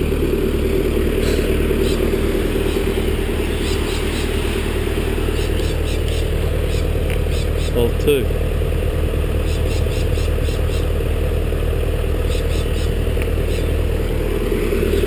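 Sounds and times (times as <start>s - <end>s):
stump grinder engine running: 0.0s - 15.0s.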